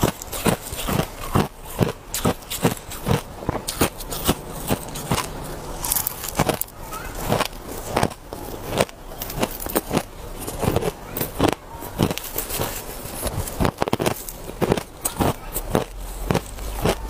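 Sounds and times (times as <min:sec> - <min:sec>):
ice crunched between teeth: 0:00.0 - 0:17.0.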